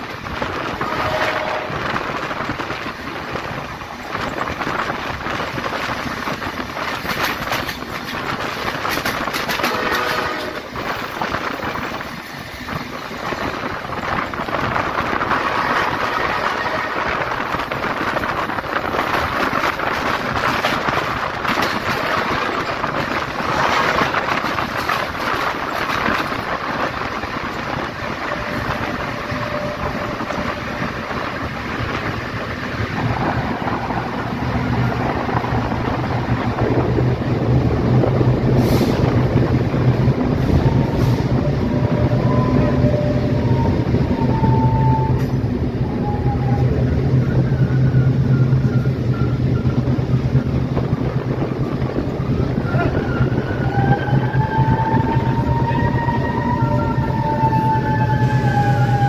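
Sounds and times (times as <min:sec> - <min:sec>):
train clicks: 0:00.0 - 0:59.0
train wheel and air rushing: 0:00.0 - 0:59.0.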